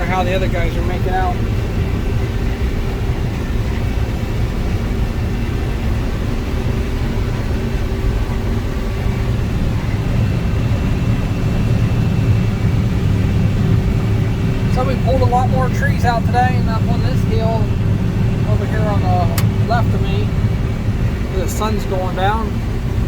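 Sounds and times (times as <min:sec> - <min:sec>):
combine harvester engine drone: 0:00.0 - 0:23.0
faint constant whine: 0:00.0 - 0:23.0.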